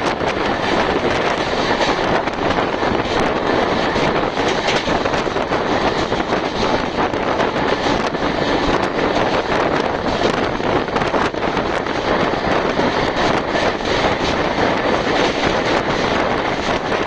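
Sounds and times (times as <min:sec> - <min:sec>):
train rushing at speed: 0:00.0 - 0:17.0.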